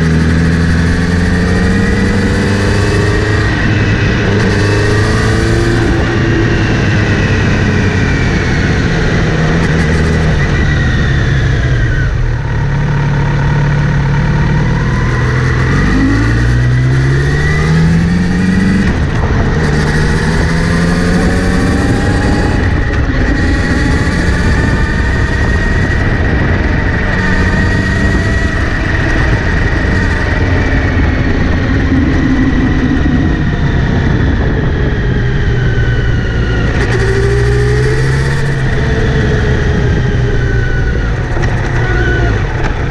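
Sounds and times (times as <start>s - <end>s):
drivetrain whirring: 0.0s - 42.9s
motorcycle engine accelerating: 0.0s - 42.9s.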